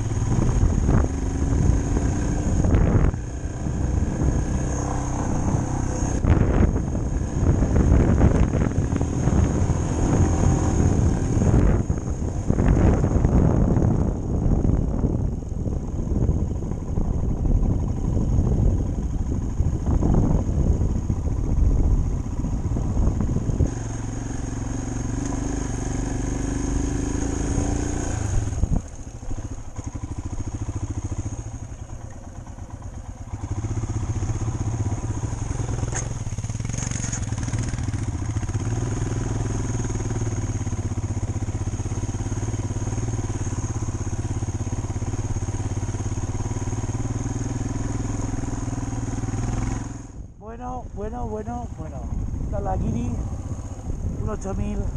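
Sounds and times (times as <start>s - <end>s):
motorcycle engine running: 0.0s - 54.9s
wind rumble on microphone: 0.0s - 54.9s.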